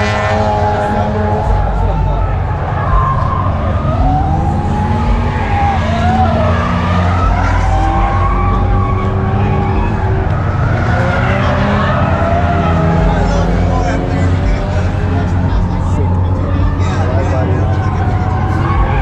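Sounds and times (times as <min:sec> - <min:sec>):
car tires squealing: 0:00.0 - 0:19.0
engines running: 0:00.0 - 0:19.0.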